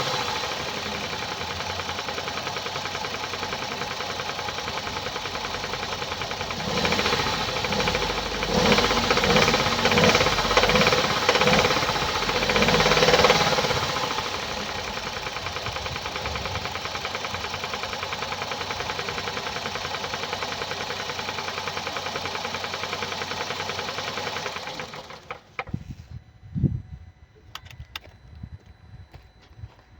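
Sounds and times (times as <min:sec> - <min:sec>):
car engine idling with ticking: 0:00.0 - 0:25.8.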